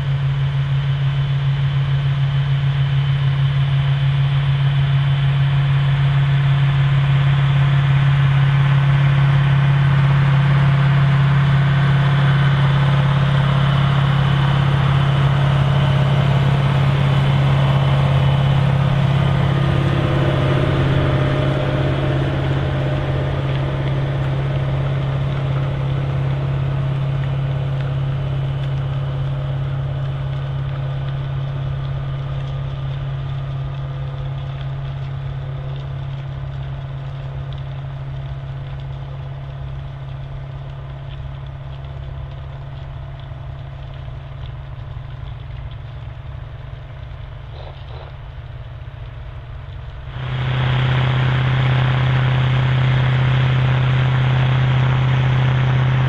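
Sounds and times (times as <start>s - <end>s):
tractor diesel engine droning: 0.0s - 38.2s, 43.8s - 56.0s.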